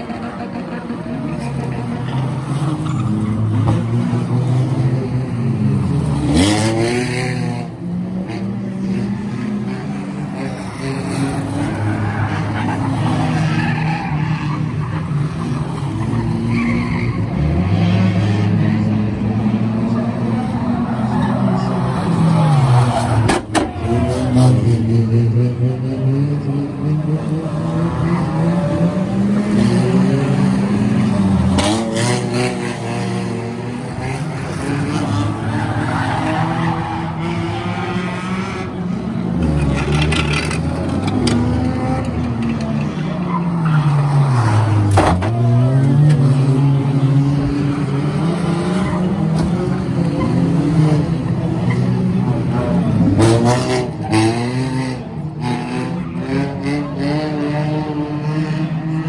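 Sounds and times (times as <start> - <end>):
racing car engines revving: 0.0 - 59.0.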